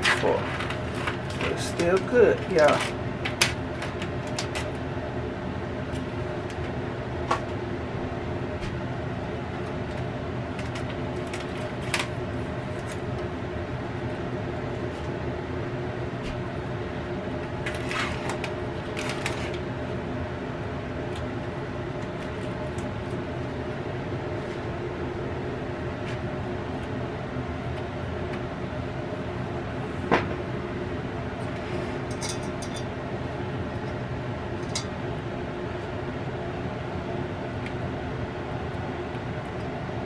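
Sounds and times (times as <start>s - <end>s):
air fryer fan hum: 0.0s - 40.0s.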